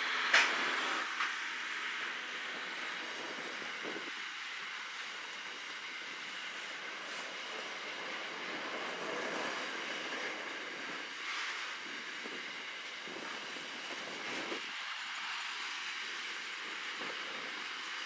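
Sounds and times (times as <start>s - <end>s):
steel wheels running on rails: 0.0s - 18.0s.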